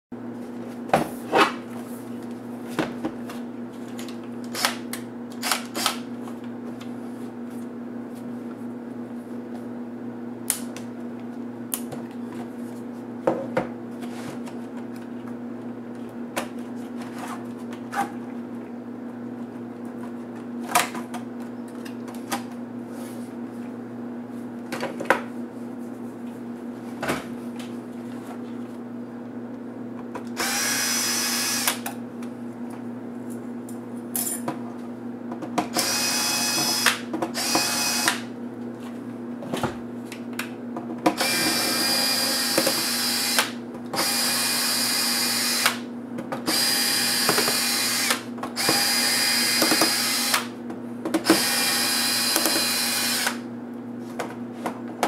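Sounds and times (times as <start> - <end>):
low electrical hum: 0.2 - 55.0.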